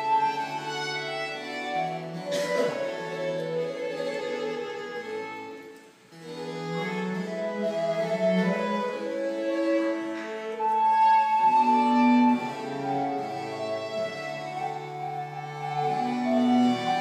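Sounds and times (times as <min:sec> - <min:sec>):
cello: 0:00.0 - 0:17.0
violin: 0:00.0 - 0:17.0.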